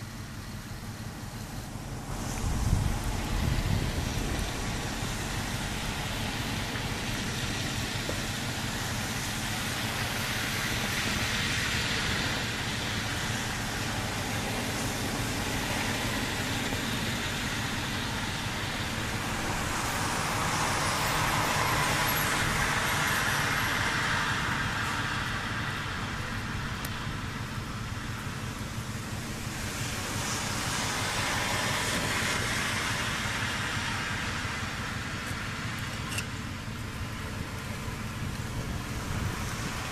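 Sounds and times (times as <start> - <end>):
tyres hissing through slush: 0.1 - 39.9.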